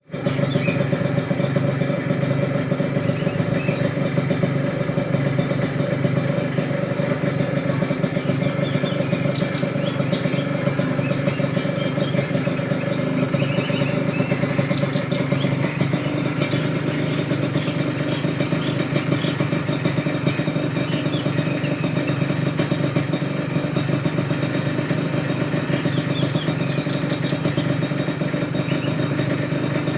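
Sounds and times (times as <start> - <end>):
motorcycle engine idling: 0.0 - 29.9.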